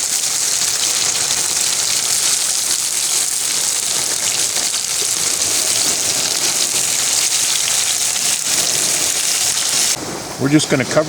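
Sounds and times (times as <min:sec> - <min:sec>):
sausage and onions sizzling in pan: 0:00.0 - 0:10.0.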